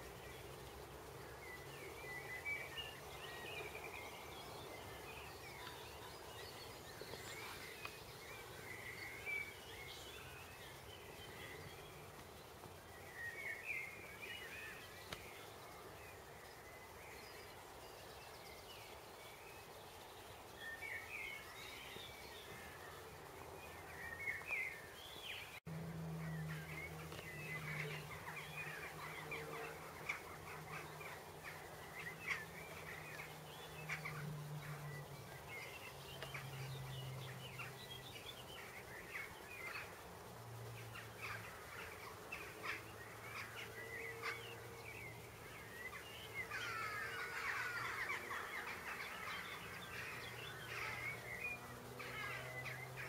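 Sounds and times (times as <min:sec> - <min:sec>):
birds chirping and twittering: 0:00.0 - 0:53.0.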